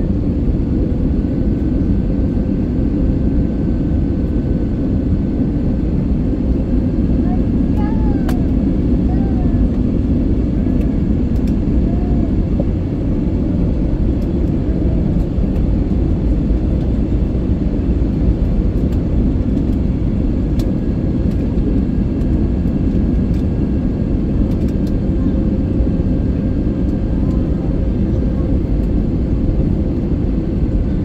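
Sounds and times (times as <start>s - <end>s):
airliner cabin rumble: 0.0s - 31.0s.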